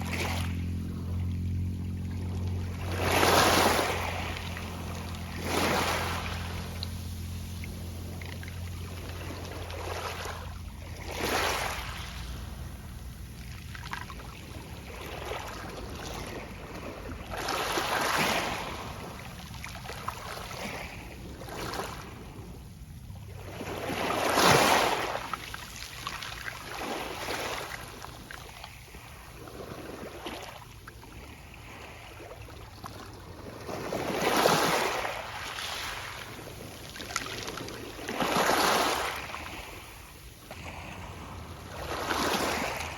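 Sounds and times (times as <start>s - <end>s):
waves breaking on pebble beach: 0.0s - 22.5s, 23.3s - 42.9s.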